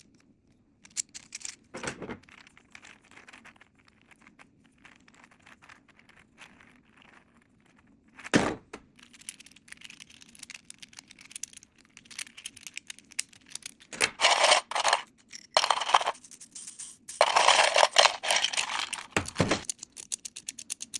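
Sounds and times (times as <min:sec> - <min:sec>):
plastic rattling and scraping: 0:00.8 - 0:16.2, 0:17.2 - 0:20.6.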